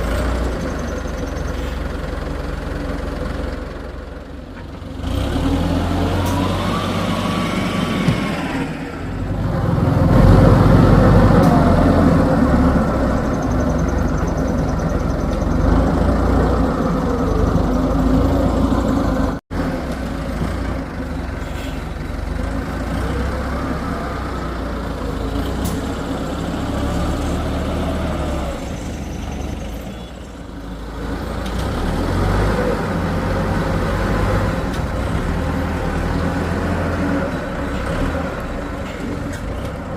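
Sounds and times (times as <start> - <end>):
excavator diesel engine working: 0.0 - 39.9.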